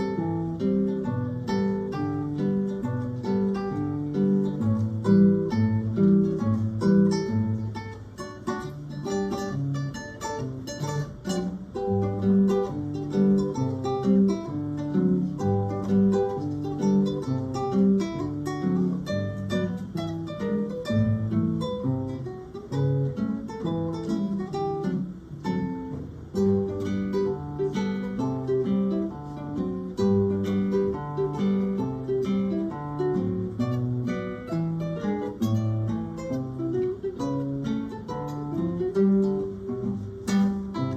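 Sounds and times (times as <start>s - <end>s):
acoustic guitars playing: 0.0s - 40.9s.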